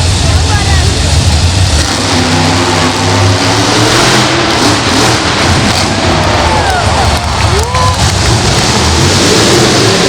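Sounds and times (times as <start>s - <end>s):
constant wash of noise: 0.0s - 10.0s
monster truck engine running: 0.0s - 10.0s.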